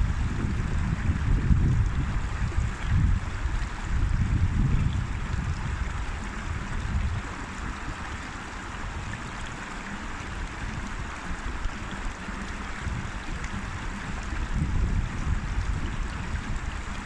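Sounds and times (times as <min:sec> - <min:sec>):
wind rumble on microphone: 0:00.0 - 0:17.0
river water rushing: 0:01.0 - 0:17.0.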